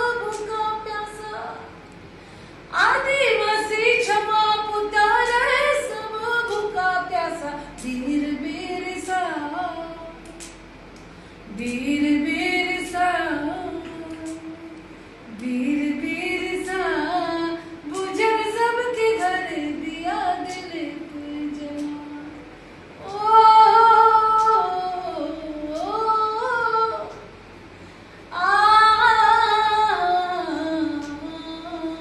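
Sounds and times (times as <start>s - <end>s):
woman singing unaccompanied: 0.0s - 1.8s, 2.7s - 10.6s, 11.5s - 27.3s, 28.3s - 32.0s.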